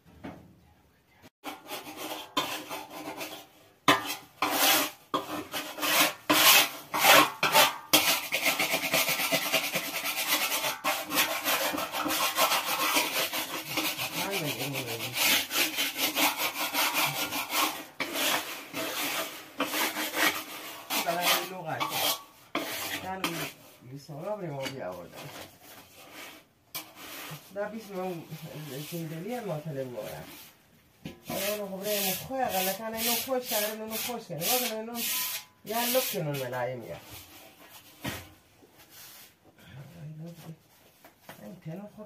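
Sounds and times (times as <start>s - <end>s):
hands rubbing flour in metal basin: 1.5s - 30.6s, 31.2s - 38.0s.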